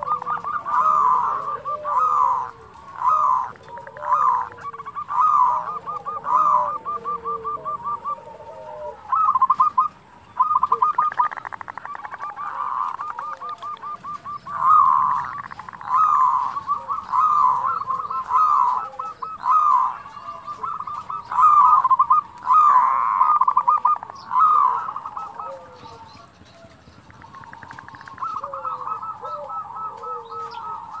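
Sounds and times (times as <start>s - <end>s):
doves trilling and cooing: 0.0s - 31.0s.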